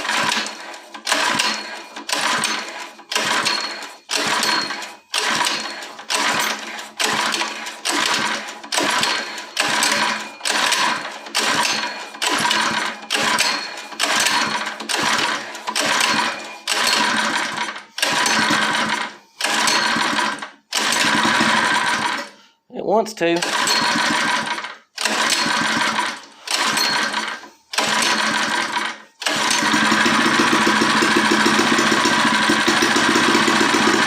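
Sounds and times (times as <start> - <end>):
engine pull-starter whirring: 0.0 - 22.4, 23.4 - 34.0.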